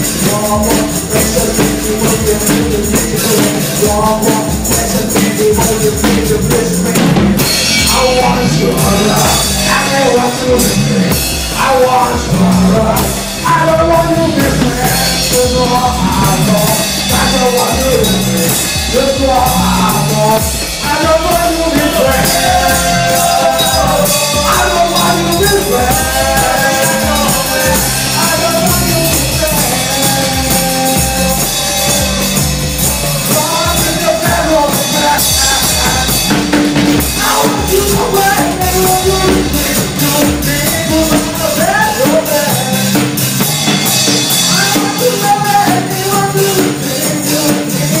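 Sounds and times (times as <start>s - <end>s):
band playing music: 0.0s - 48.0s
drum kit: 0.0s - 48.0s
person singing: 0.0s - 48.0s.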